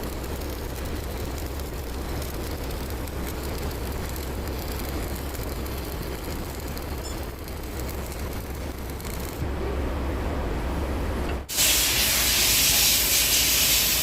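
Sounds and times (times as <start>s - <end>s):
arc welding crackling hiss: 0.0s - 9.4s, 11.5s - 14.0s.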